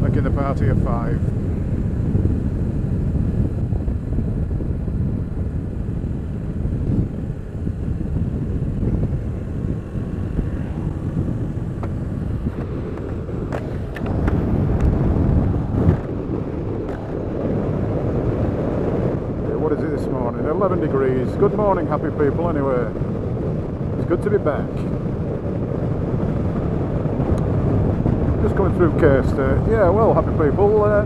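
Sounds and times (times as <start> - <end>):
motorcycle riding noise: 0.0 - 31.0
wind rumble on microphone: 0.0 - 31.0.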